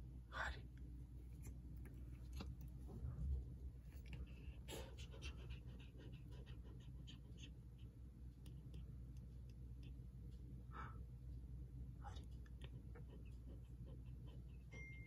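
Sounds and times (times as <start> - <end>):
cat panting: 1.2 - 11.3, 12.0 - 15.0.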